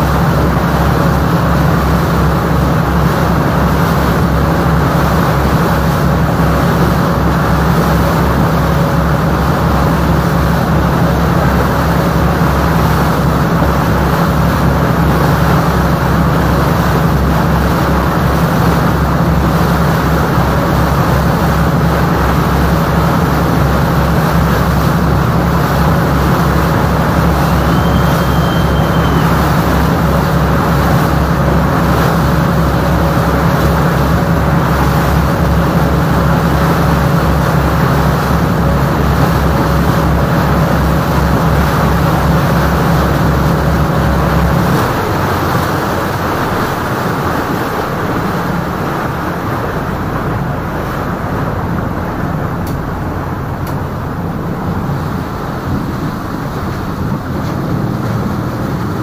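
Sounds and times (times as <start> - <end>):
boat diesel engine throbbing: 0.0 - 59.0
water and wind rushing: 0.0 - 59.0.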